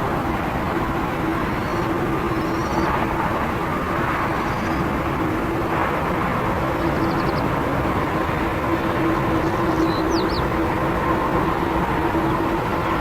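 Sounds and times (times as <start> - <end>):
aircraft engines rushing: 0.0 - 13.0.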